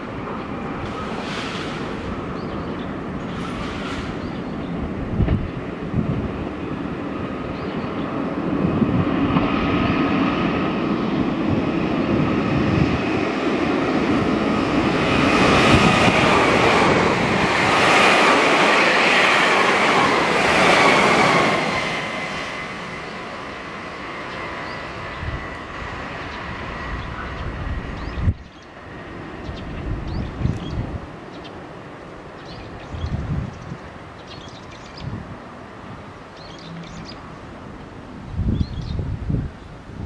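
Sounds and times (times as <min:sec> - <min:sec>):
electric train passing on rails: 0:00.0 - 0:40.0.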